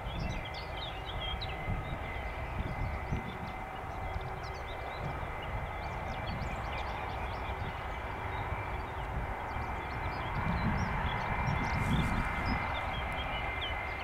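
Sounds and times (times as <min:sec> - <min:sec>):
jet engines rumbling with whine: 0:00.0 - 0:14.0.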